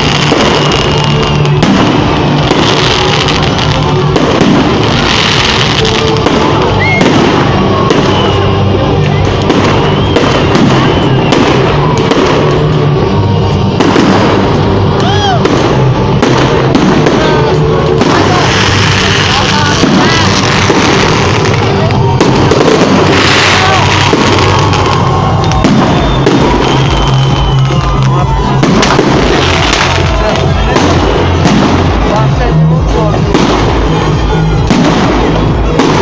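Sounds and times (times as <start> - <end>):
fireworks crackling and popping: 0.0 - 36.0
music playing: 0.0 - 36.0.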